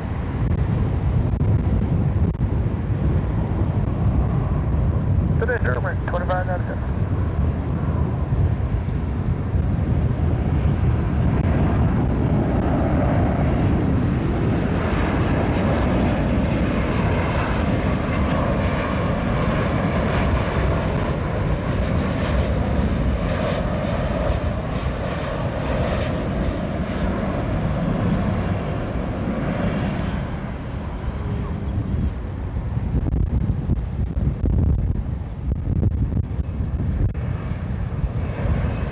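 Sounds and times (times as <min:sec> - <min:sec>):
high engine whine: 0:00.0 - 0:38.9
jet engines rumbling: 0:00.0 - 0:38.9.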